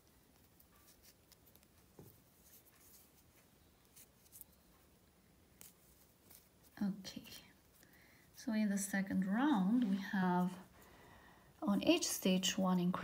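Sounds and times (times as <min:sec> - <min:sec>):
yarn rustling: 0:00.0 - 0:10.8.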